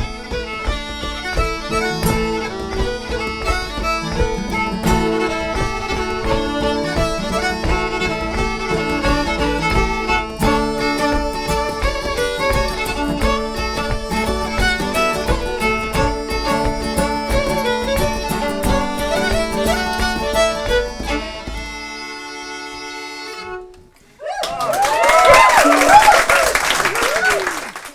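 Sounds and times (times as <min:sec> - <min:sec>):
folk dance tune by band: 0:00.0 - 0:23.8
fiddle: 0:00.0 - 0:24.0.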